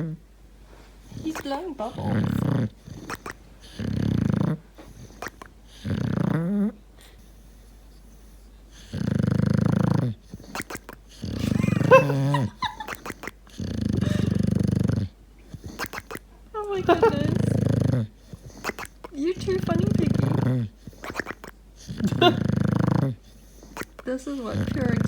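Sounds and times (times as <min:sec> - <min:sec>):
dog grumbling and whining: 0:00.0 - 0:00.3, 0:01.1 - 0:07.2, 0:08.8 - 0:25.0.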